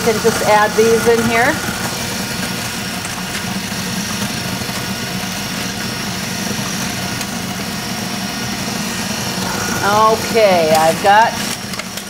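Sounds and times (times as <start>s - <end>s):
food processor grinding: 0.0s - 12.0s.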